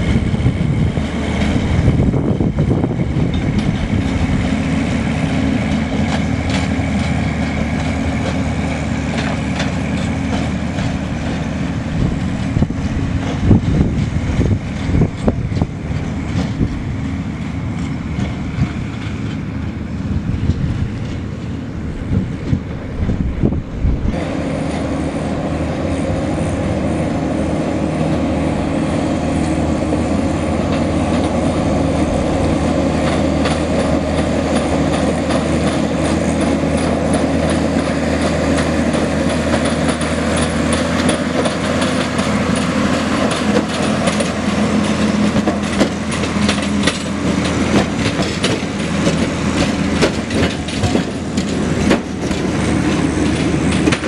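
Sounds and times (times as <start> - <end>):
low uneven rumble: 0.0 - 54.0
tram mechanical hum: 0.0 - 54.0
tram wheels clicking on rails: 0.0 - 54.0.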